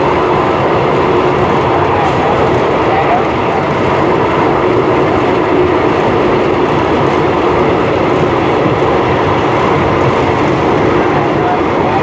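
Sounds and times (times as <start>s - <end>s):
train wheels rumbling and rattling: 0.0s - 12.0s.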